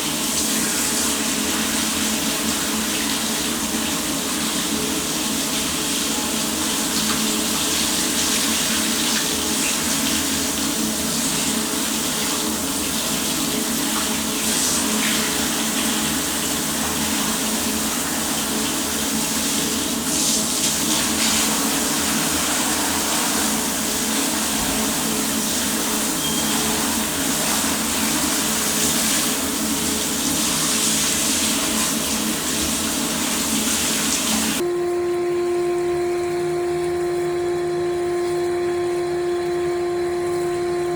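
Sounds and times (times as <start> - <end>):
water running from a tap: 0.0 - 34.6.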